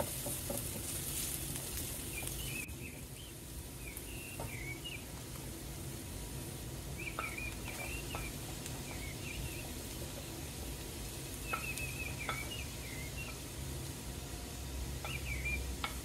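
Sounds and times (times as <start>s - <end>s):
birds chirping: 0.0s - 14.1s, 14.9s - 16.0s
onions sizzling in oil: 0.0s - 16.0s
steady low hum: 0.0s - 16.0s.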